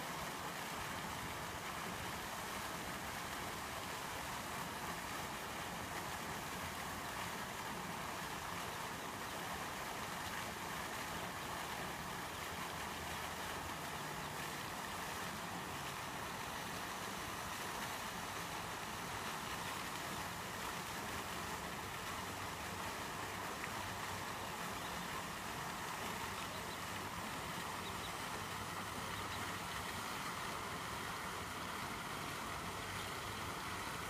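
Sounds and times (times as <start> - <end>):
outdoor hiss: 0.0 - 34.0.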